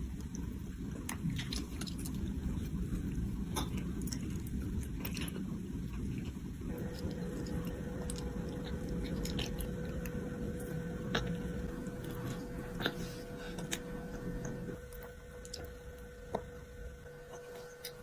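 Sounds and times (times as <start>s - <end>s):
person chewing: 0.3s - 15.8s.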